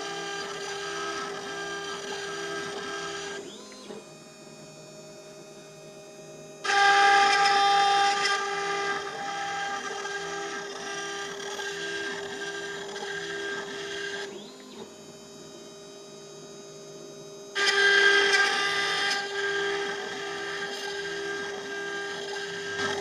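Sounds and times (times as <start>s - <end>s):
milling machine spindle whine: 0.0s - 23.0s.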